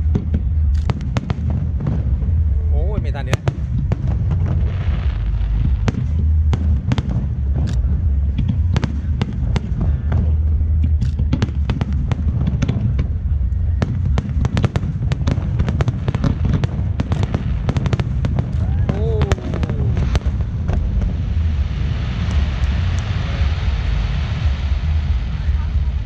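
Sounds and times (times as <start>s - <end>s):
fireworks booming: 0.0s - 26.0s
fireworks popping and crackling: 0.0s - 26.0s.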